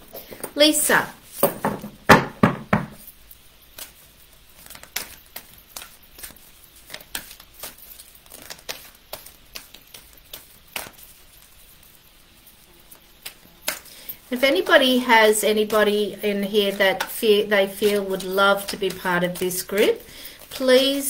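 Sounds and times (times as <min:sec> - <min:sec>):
cards being shuffled: 0:02.9 - 0:12.2, 0:12.9 - 0:21.0.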